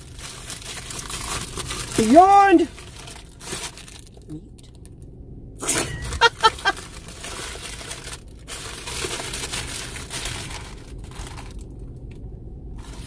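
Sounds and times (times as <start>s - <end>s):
paper wrapper crinkling: 0.0s - 4.3s, 5.8s - 11.9s, 12.8s - 13.0s.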